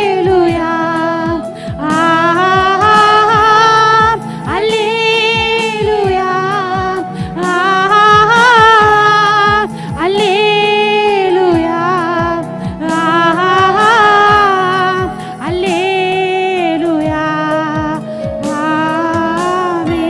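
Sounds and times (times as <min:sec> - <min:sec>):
backing music with light percussion: 0:00.0 - 0:20.0
woman singing into a microphone: 0:00.0 - 0:20.0.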